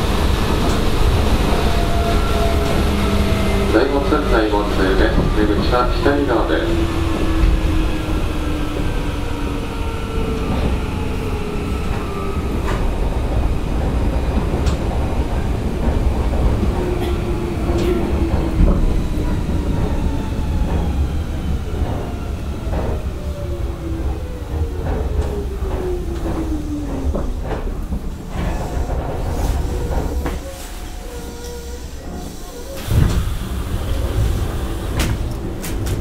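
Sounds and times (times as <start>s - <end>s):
train low rumble: 0.0s - 36.0s.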